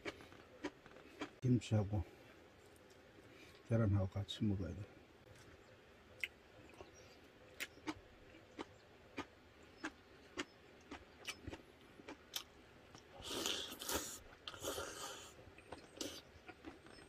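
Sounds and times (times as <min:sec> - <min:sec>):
faint chewing with mouth clicks: 0:00.0 - 0:01.4, 0:02.5 - 0:03.7, 0:05.2 - 0:17.0.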